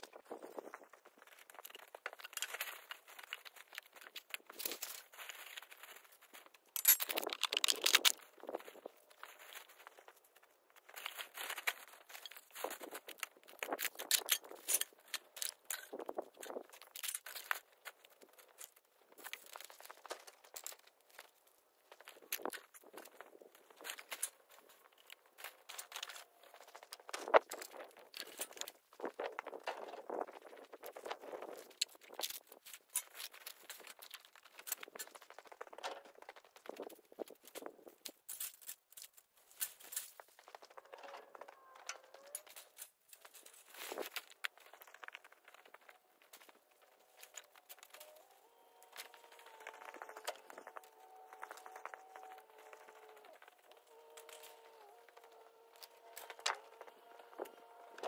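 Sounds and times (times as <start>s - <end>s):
plastic and foam scraps rustling: 0.0s - 58.0s.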